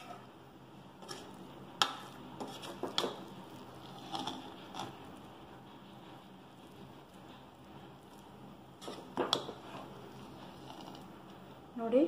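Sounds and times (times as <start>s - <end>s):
ladle stirring rice in metal pot: 0.0s - 11.6s.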